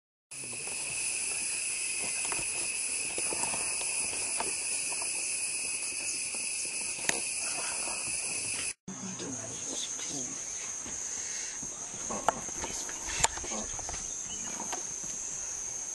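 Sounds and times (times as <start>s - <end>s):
insect chorus drone: 0.3s - 15.9s.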